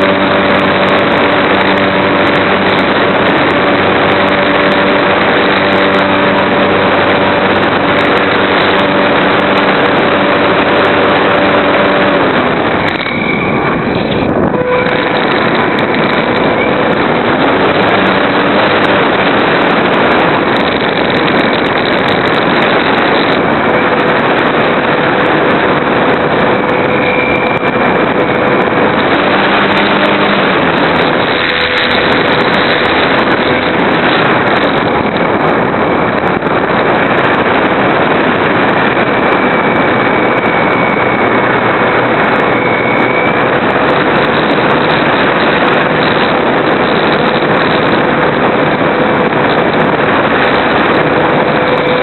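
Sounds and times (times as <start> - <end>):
faint steady whine: 0.0 - 52.0
model airplane motor and propeller: 0.0 - 52.0
wind rushing: 0.0 - 52.0.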